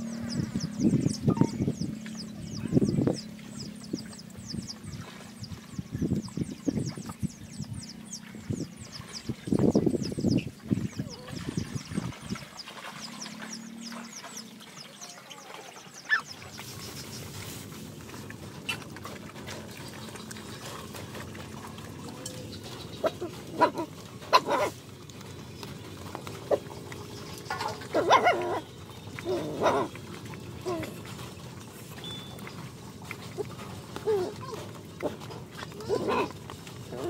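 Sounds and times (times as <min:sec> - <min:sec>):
dogs slurping and chewing: 0:00.0 - 0:37.0.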